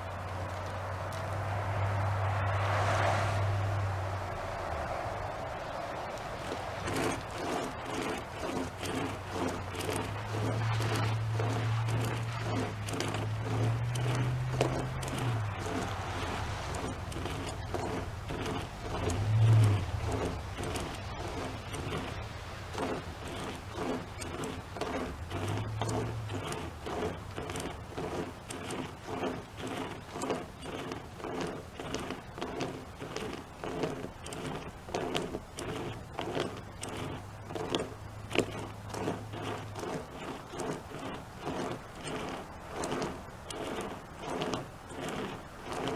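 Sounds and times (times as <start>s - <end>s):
rope chainsaw rasping through branch: 0.0s - 45.9s.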